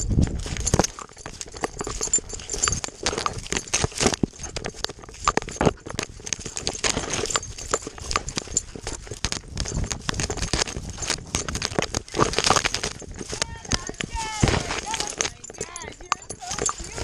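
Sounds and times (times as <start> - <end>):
dog footfalls patter: 0.0 - 17.0
dry grass rustling: 0.0 - 17.0.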